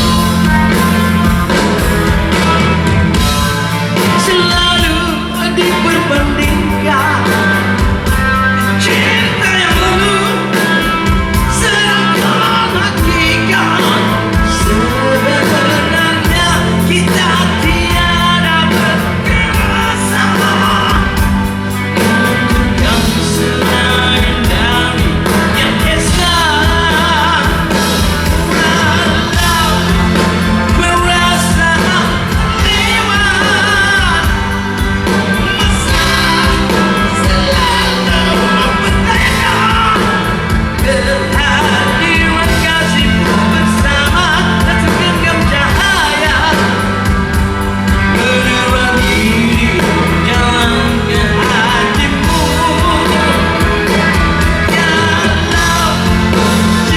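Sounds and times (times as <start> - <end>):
bass: 0.0 - 56.9
drums: 0.0 - 56.9
guitars: 0.0 - 56.9
person singing lead vocal: 0.0 - 56.9.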